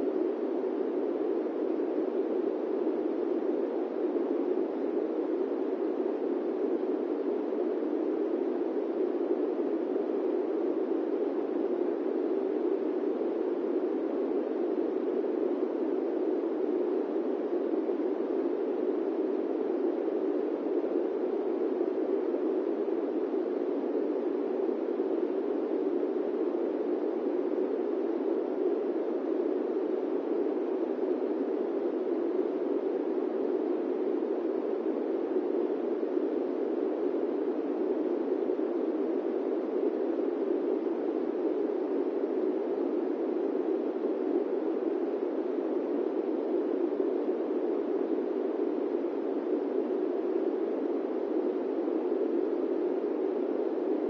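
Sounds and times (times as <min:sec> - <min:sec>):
steady rushing white noise: 0:00.0 - 0:54.0.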